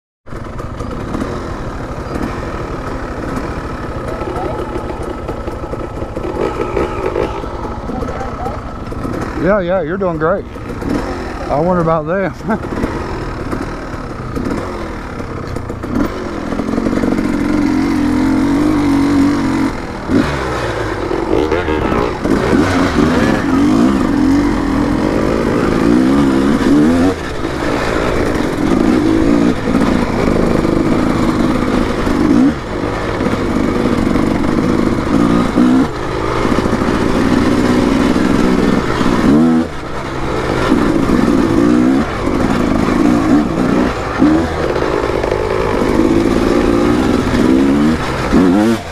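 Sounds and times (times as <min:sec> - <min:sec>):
dirt bike engine revving: 0:00.3 - 0:48.9.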